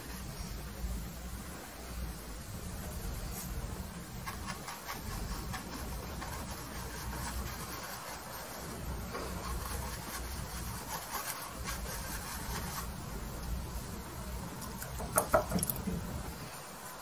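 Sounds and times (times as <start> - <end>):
brush dabbing paint on canvas: 2.8 - 17.0.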